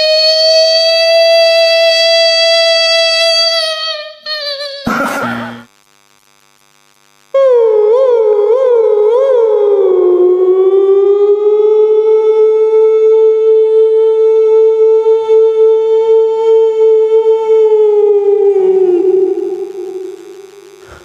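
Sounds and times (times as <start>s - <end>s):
beatboxer imitating a siren: 0.0s - 5.7s, 7.3s - 21.0s.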